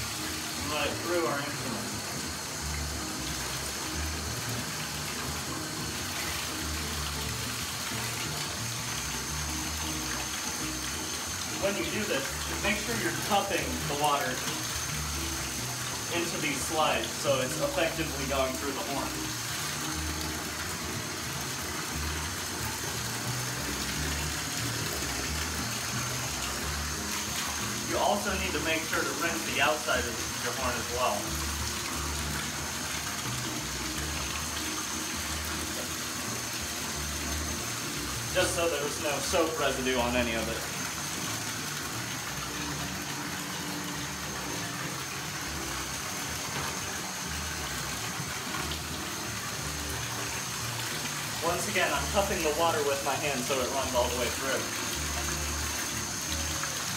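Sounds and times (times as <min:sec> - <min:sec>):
faucet running into tub: 0:00.0 - 0:56.9
shower water splashing into bathtub: 0:00.0 - 0:56.9.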